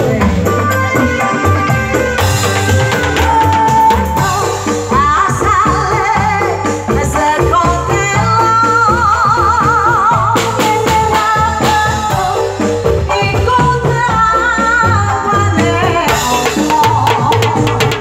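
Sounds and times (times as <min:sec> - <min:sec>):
bass drums and percussion: 0:00.0 - 0:18.0.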